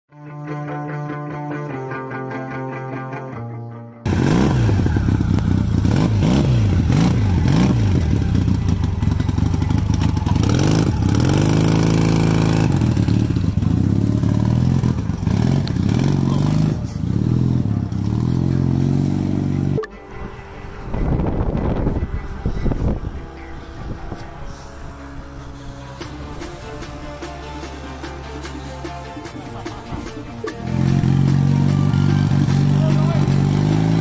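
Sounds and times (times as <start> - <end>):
motorcycle engine revving: 4.1 - 34.0.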